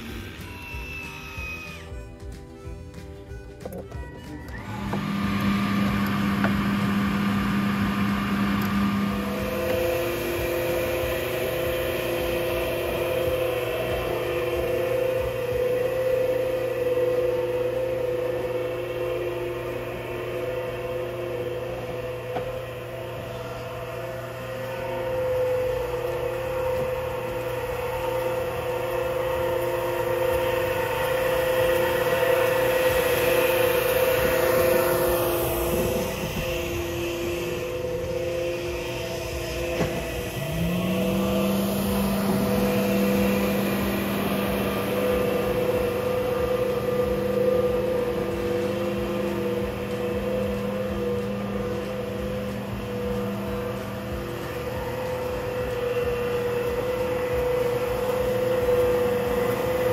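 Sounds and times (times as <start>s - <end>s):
floor scrubber motor whine: 0.0s - 59.9s.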